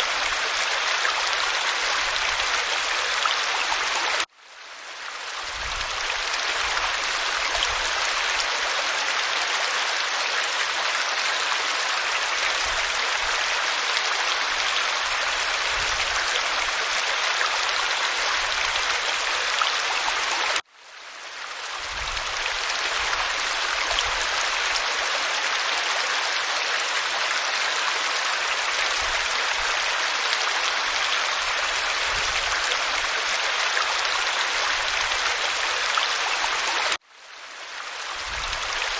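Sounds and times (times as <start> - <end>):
waterfall pouring over rock: 0.0 - 4.3, 4.9 - 20.7, 21.3 - 37.0, 37.6 - 38.9.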